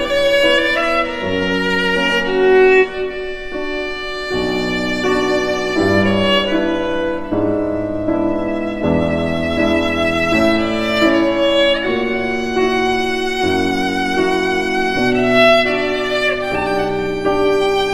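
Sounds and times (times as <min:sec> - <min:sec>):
slow violin melody: 0:00.0 - 0:17.9.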